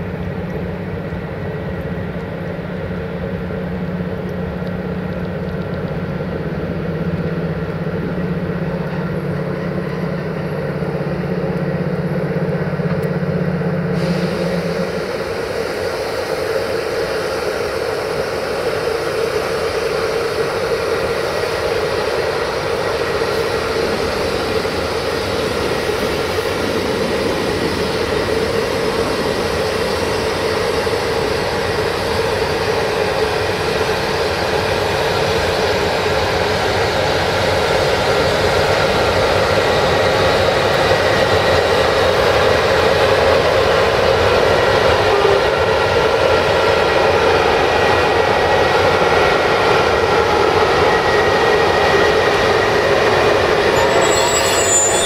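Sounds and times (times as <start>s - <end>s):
electric locomotive whirring drone: 0.0s - 55.0s.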